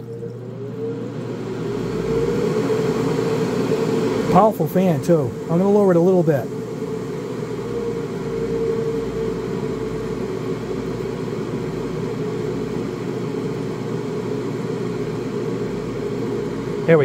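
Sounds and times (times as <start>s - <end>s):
extraction fan running: 0.0s - 17.0s.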